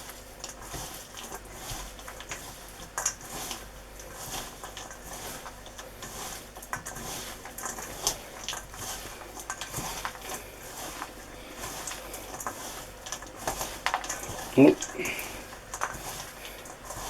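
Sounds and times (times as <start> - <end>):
sticky mixture squelching in bowl: 0.0 - 17.0.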